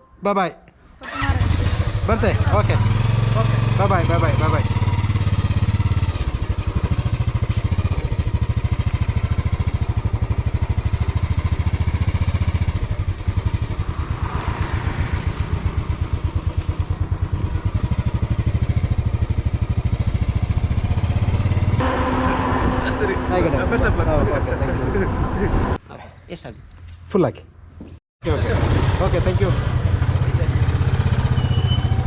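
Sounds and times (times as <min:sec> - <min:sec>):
motorcycle engine running: 0:01.0 - 0:25.8, 0:28.3 - 0:32.0.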